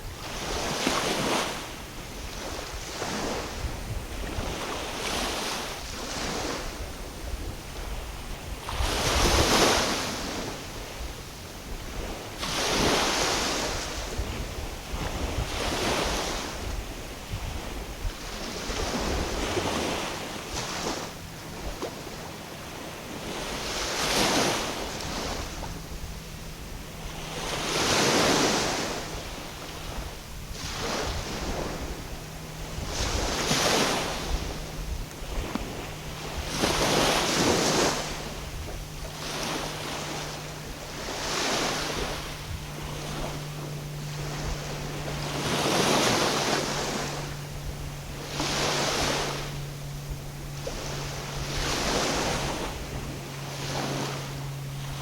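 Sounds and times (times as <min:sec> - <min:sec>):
waves washing in: 0:00.0 - 0:55.0
wind rumbling on microphone: 0:00.0 - 0:55.0.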